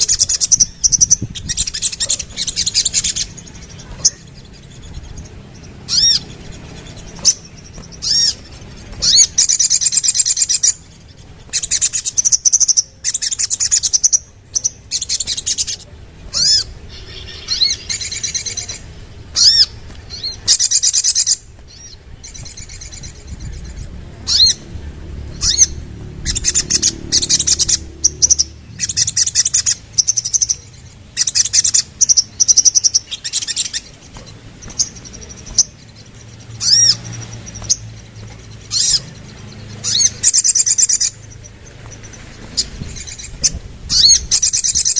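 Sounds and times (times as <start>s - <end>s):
sunbird trills and chirps: 0.0s - 44.9s.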